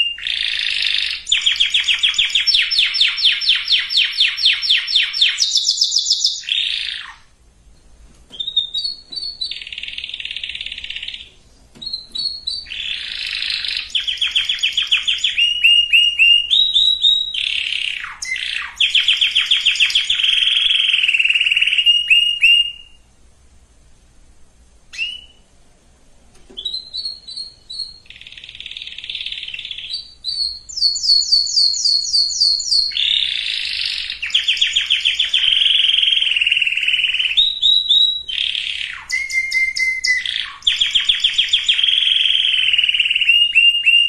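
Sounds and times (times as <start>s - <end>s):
canary singing trills: 0.0s - 23.1s, 24.9s - 25.5s, 26.5s - 44.0s.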